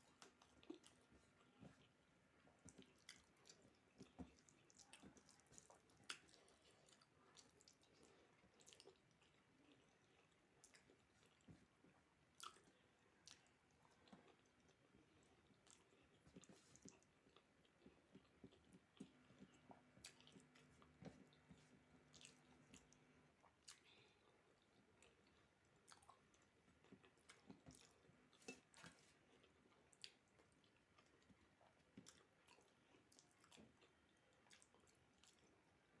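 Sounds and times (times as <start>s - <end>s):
person chewing with mouth clicks: 0.0s - 2.0s, 2.6s - 35.6s.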